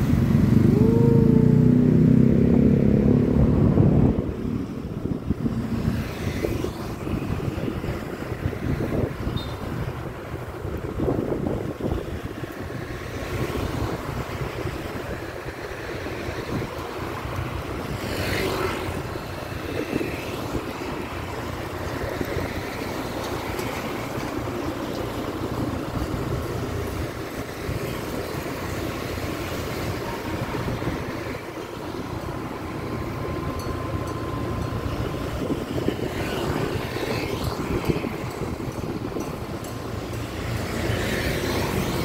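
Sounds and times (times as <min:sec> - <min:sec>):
city street traffic rumble: 0:00.0 - 0:42.0.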